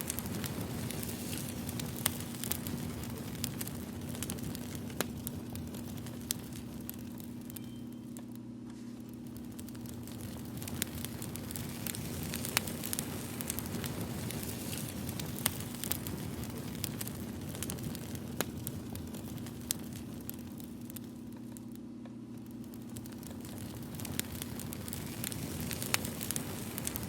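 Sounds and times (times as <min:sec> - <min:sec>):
low steady hum: 0:00.0 - 0:27.0
wood fire crackling: 0:00.0 - 0:27.0.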